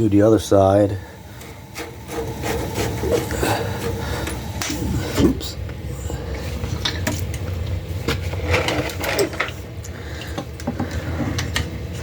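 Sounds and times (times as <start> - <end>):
boiler humming: 0.0 - 12.0.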